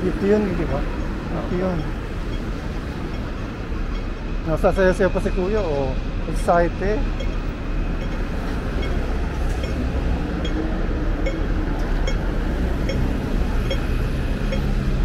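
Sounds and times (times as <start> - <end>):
general street hubbub: 0.0 - 15.0
low traffic rumble: 0.0 - 15.0.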